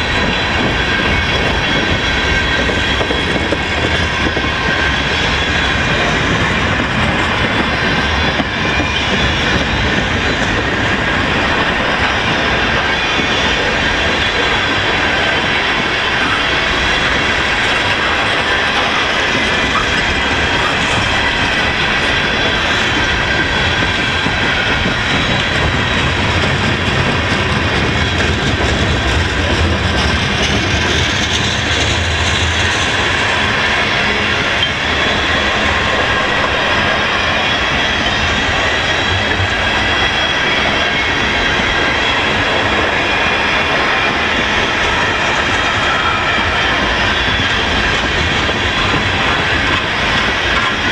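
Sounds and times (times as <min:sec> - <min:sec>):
high squeal from running gear: 0:00.0 - 0:50.9
train wheels clickety-clack: 0:00.0 - 0:50.9.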